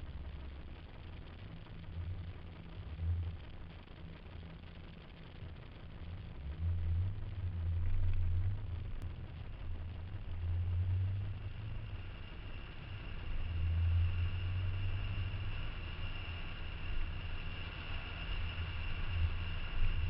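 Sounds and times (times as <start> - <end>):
car engine and road noise: 0.0 - 20.0
faint high whine: 0.0 - 20.0.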